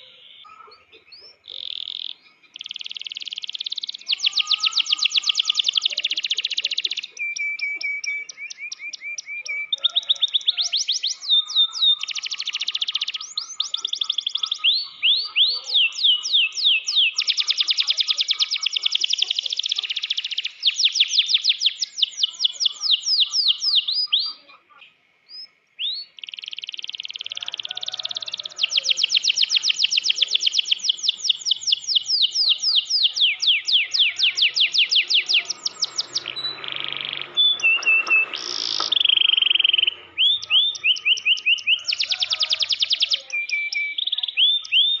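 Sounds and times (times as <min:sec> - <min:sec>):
canary singing: 0:00.0 - 0:45.0.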